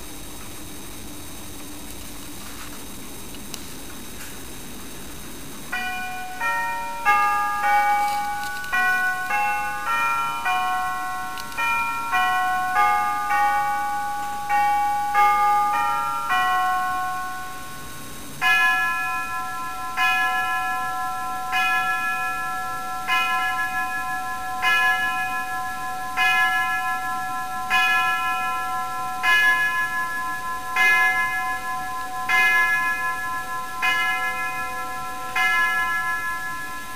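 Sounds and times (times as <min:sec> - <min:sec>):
clock bell striking the hour: 0:05.2 - 0:36.9
clock chime melody: 0:05.2 - 0:36.9.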